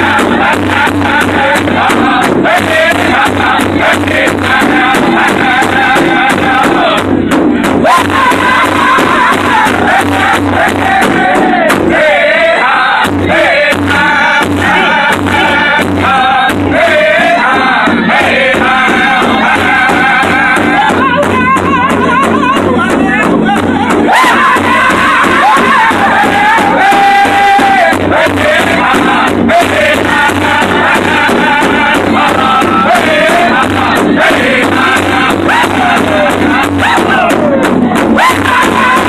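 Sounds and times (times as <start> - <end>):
large drum beaten steadily: 0.0 - 39.0
men singing in high voices: 0.0 - 39.0.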